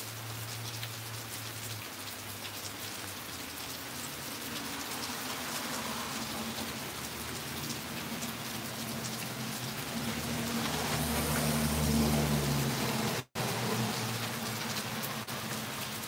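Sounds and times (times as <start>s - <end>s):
car tyres hissing on wet street: 0.0s - 16.0s
raindrops ticking: 0.0s - 16.0s
steady rain falling: 0.0s - 16.0s.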